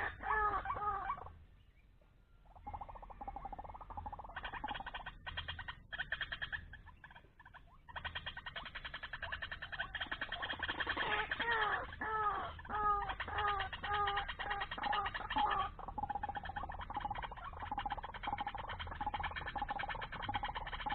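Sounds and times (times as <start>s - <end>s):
birds calling and trilling: 0.0s - 20.9s.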